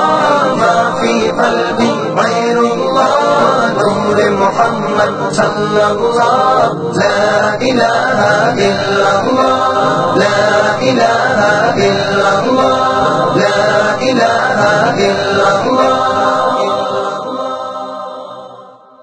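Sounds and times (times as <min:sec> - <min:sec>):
a cappella choral chanting: 0:00.0 - 0:19.0.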